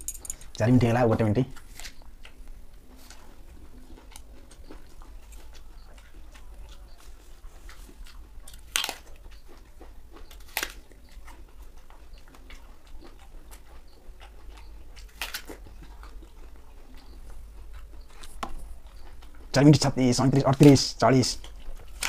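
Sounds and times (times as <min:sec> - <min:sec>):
apple crunching bites: 0:01.4 - 0:22.0
chewing crunches: 0:01.4 - 0:22.0.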